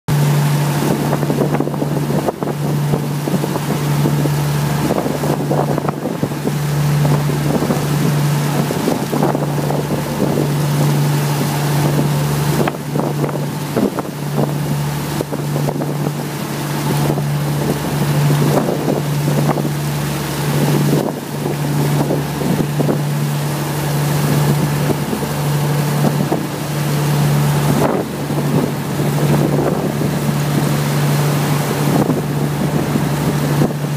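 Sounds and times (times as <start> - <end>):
boat engine droning: 0.1 - 33.9
boat wake splashing: 0.1 - 33.9
wind buffeting microphone: 0.1 - 33.9.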